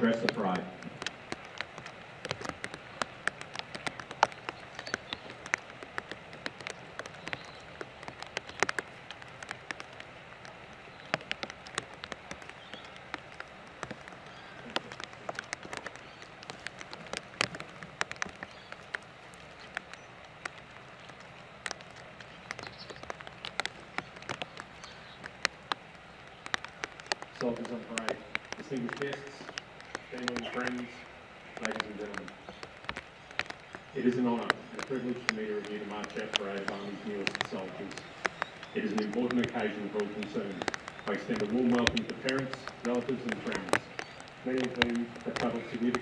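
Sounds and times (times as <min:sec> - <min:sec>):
rain hissing: 0:00.0 - 0:46.0
raindrops tapping: 0:00.0 - 0:46.0.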